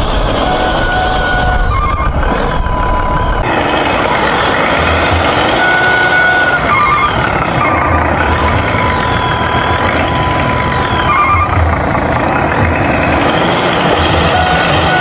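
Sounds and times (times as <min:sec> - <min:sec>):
high sliding whistle-like tones: 0:00.0 - 0:15.0
truck engine running: 0:00.0 - 0:15.0.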